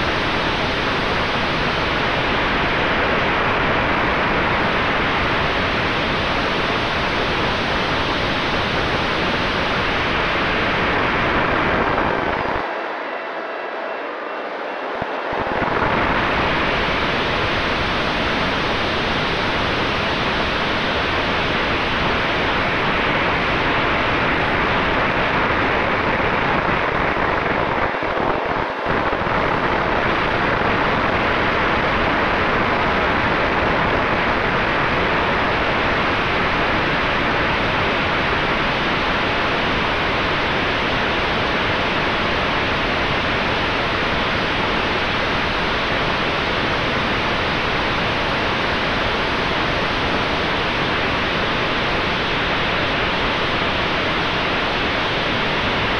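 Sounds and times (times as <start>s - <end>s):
rushing wind on microphone: 0.0s - 13.2s, 15.0s - 55.9s.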